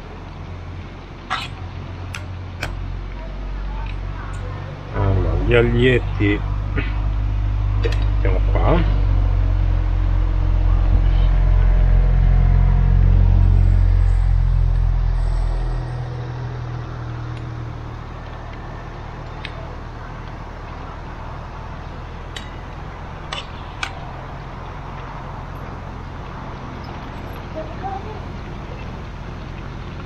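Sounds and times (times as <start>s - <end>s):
gas stove burner rumbling: 0.0s - 30.0s.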